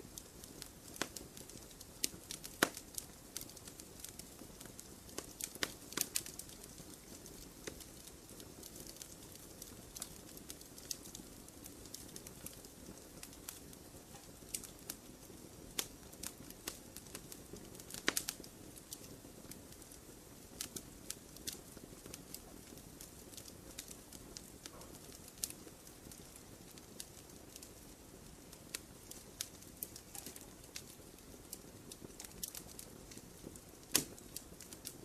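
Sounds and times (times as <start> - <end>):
wood crackling and popping: 0.0 - 35.0.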